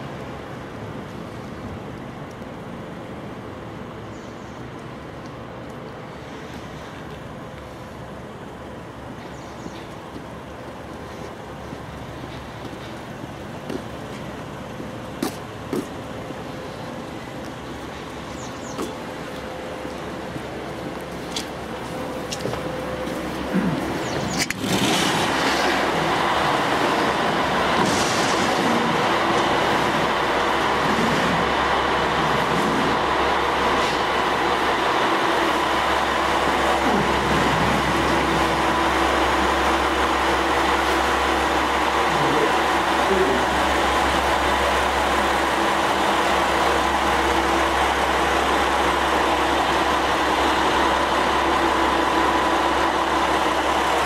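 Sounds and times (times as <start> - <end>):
diesel railcar idling: 0.0 - 54.0
engine hum: 0.0 - 54.0.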